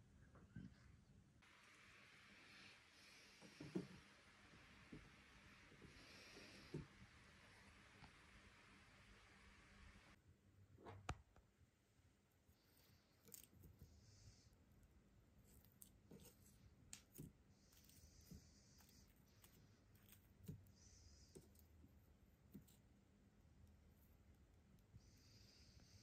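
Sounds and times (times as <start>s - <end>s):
soft hiss: 0.6s - 10.2s, 10.9s - 26.0s.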